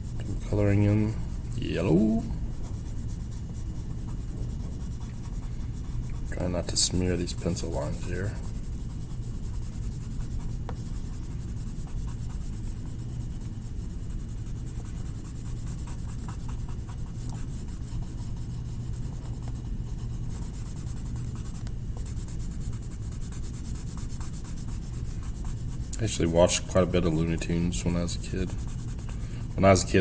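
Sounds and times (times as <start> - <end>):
crayon scribbling on paper: 0.0 - 30.0.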